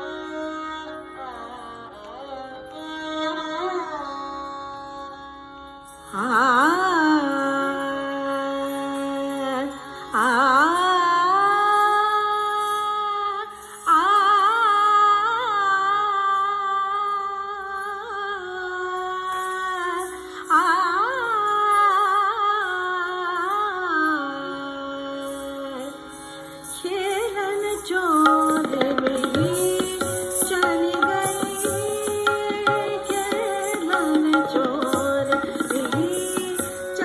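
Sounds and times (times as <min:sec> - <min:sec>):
sarangi melody: 0:00.0 - 0:37.0.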